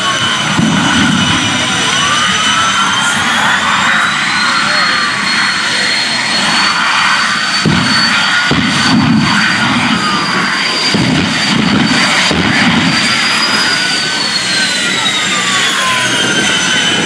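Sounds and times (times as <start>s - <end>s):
jet engine roaring: 0.0s - 17.0s
low rumbles: 0.0s - 17.0s.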